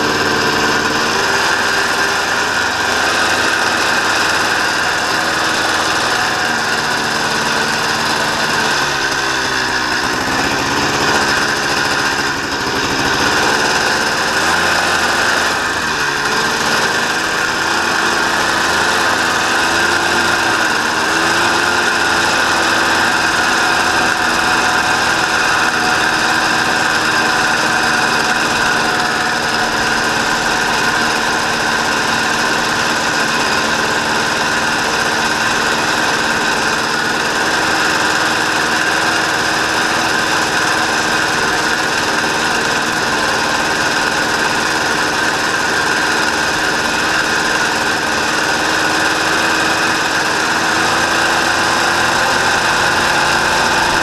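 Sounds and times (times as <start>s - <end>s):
buggy engine running: 0.0s - 54.0s.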